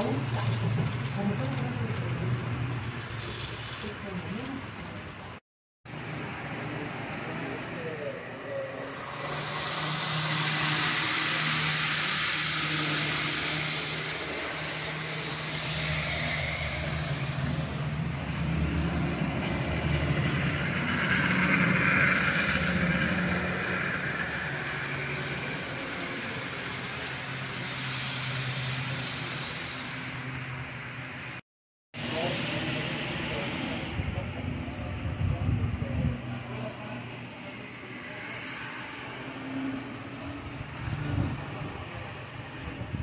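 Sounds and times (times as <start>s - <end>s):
hissing rush of trains: 0.0s - 31.4s, 32.0s - 43.0s
model train low hum: 0.0s - 31.4s, 32.0s - 43.0s.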